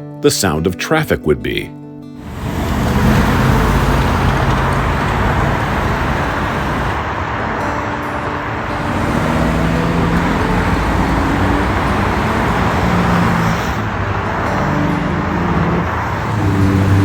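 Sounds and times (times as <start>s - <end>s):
hum of heavy engines: 2.2s - 17.0s
passing cars: 2.2s - 17.0s.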